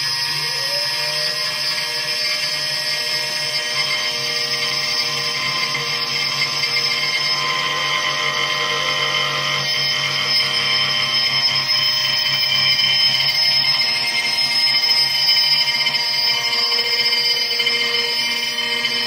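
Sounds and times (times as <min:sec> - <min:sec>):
router spindle milling steel: 0:00.0 - 0:19.0.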